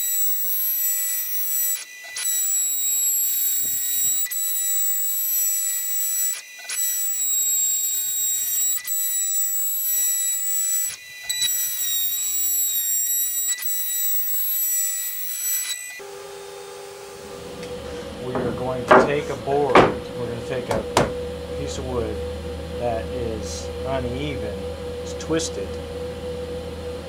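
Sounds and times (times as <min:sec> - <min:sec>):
router spindle high-pitched whine: 0:00.0 - 0:27.0.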